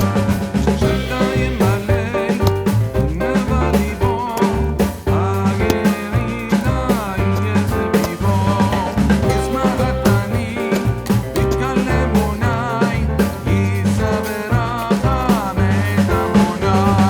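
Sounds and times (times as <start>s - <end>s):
upbeat song with singing: 0.0s - 17.0s.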